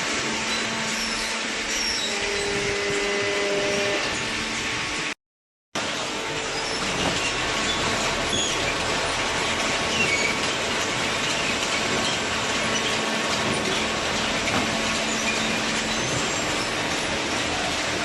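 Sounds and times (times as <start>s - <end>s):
industrial machinery running: 0.0s - 5.2s, 5.8s - 18.0s.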